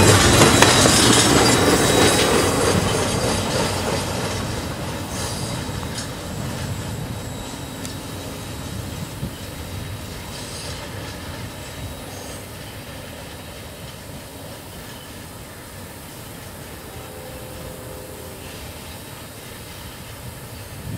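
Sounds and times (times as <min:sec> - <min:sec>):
freight train wheels clattering on rails: 0:00.0 - 0:17.7
faint high wheel squeal: 0:00.0 - 0:20.9.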